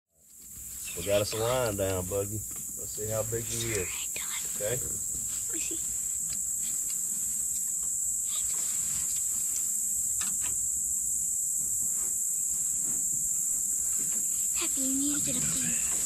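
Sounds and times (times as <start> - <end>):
insect chorus drone: 0.2 - 16.0.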